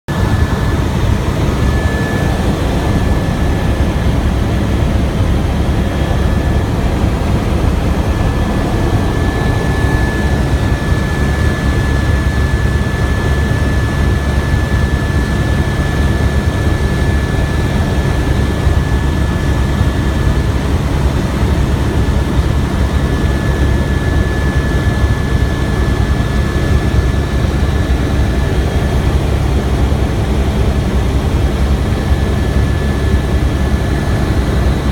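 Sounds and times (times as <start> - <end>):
helicopter turbine and rotor noise: 0.1 - 34.9
high whine: 0.1 - 34.9.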